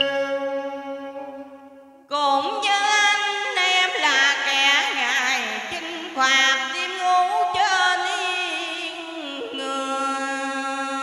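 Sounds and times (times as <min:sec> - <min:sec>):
woman singing opera: 0:02.1 - 0:11.0.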